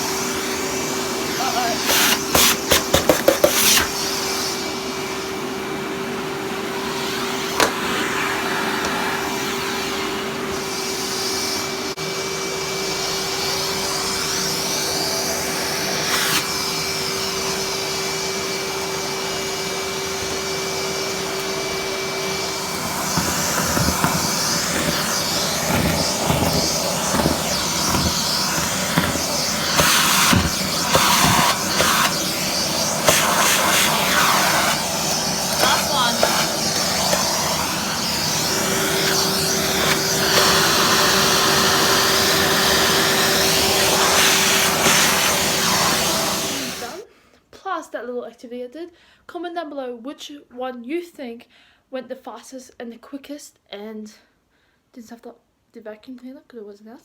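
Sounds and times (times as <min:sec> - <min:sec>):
vacuum cleaner running: 0:00.0 - 0:47.1.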